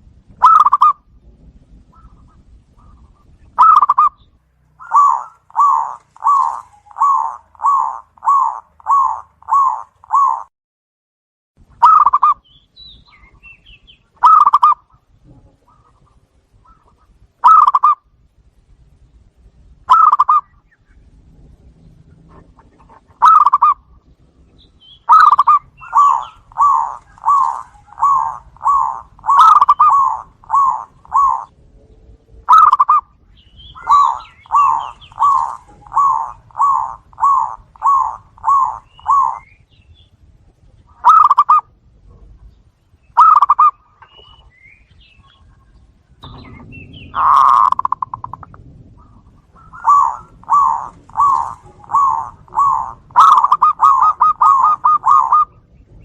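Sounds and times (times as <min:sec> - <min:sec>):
doves cooing: 0:00.4 - 0:01.1, 0:01.9 - 0:10.5, 0:11.8 - 0:12.4, 0:14.2 - 0:18.1, 0:19.9 - 0:20.6, 0:21.7 - 0:42.5, 0:43.1 - 0:56.0.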